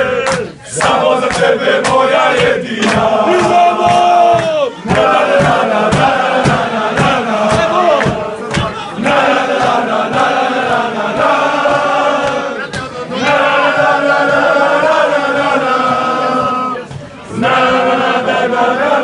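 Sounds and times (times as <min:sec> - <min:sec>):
crowd chanting in unison: 0:00.0 - 0:19.0.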